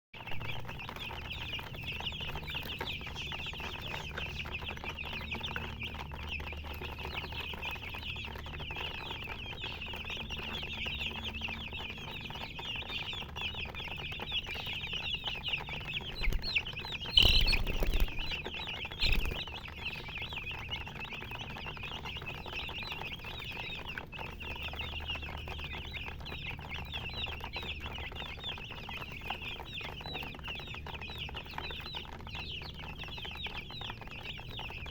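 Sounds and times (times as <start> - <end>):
baby chicks peeping: 0.2 - 34.9.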